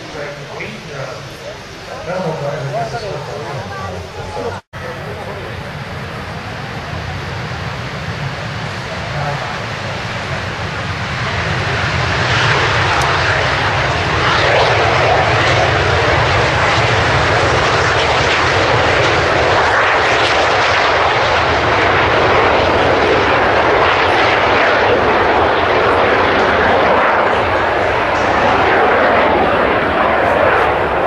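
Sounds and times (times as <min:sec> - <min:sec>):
jet engine rushing: 0:00.0 - 0:31.0.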